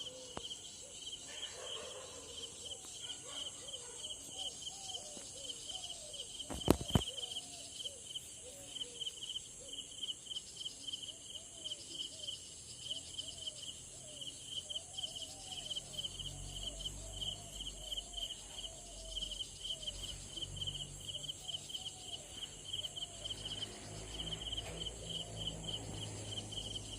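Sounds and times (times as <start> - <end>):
insects chirping: 0.0 - 26.9.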